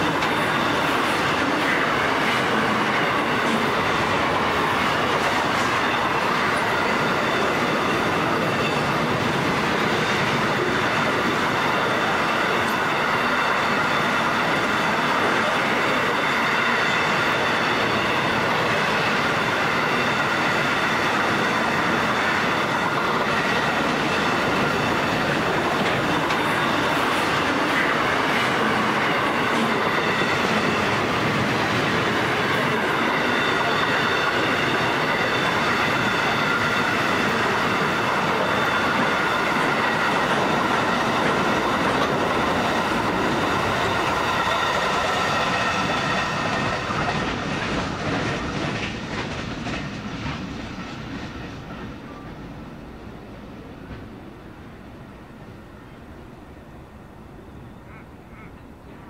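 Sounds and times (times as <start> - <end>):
freight train wheels clattering: 0.0 - 54.3.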